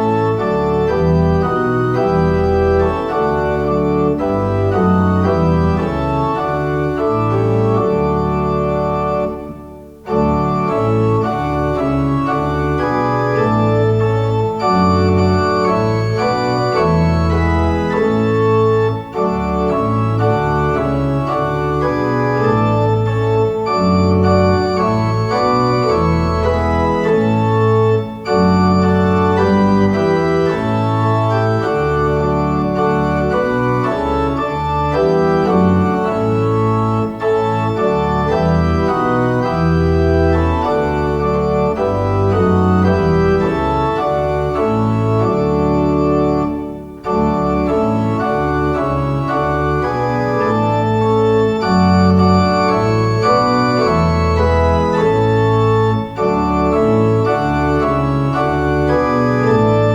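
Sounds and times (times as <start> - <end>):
organ playing a hymn tune: 0.0 - 59.9.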